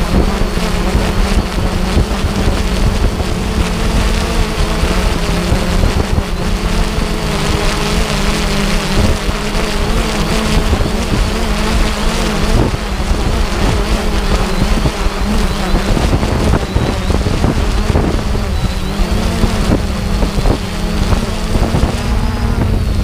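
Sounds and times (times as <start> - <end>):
dense rushing noise: 0.0 - 23.0
engine running steadily: 0.0 - 23.0.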